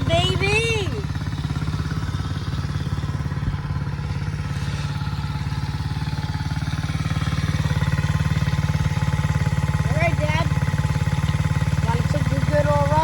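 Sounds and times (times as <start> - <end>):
motorbike engine idling: 0.0 - 13.0.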